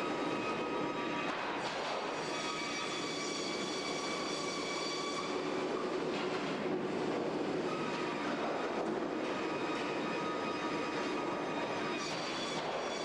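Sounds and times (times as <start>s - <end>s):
sawmill machinery din: 0.0s - 13.0s.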